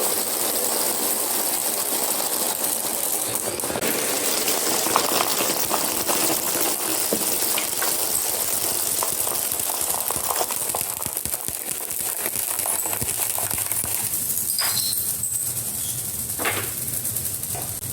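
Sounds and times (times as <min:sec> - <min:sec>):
marbles rolling and clattering: 0:00.0 - 0:17.9.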